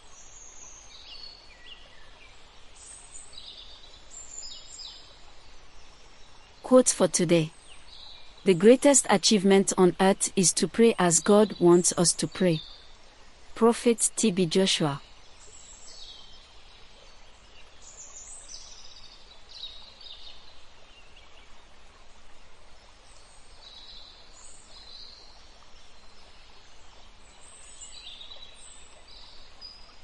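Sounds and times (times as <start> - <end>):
low background noise: 0.0 - 30.0.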